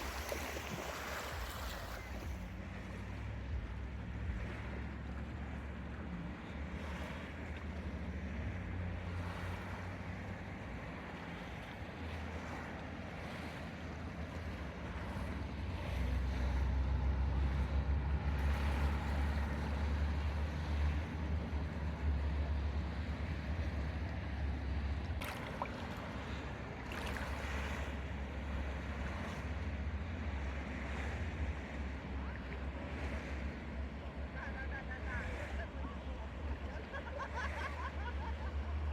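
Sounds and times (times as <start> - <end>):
sea waves washing onto beach: 0.0 - 38.9.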